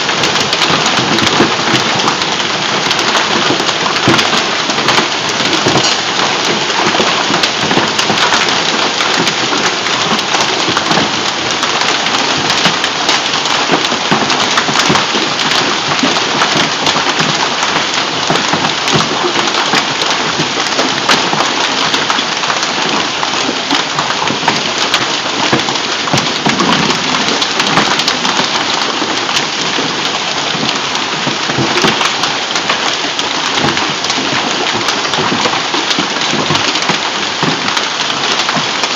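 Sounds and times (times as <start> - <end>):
hail and rain pelting down: 0.0 - 38.9.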